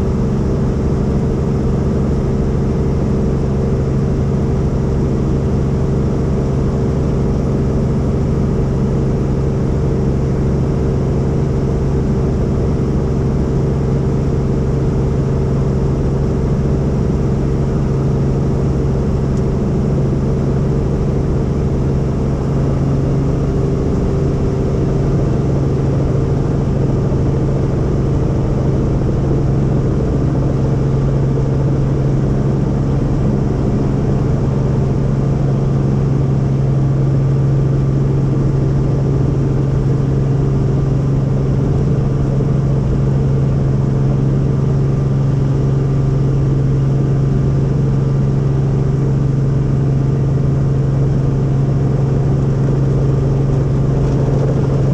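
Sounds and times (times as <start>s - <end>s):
helicopter engine and rotors: 0.0s - 54.9s.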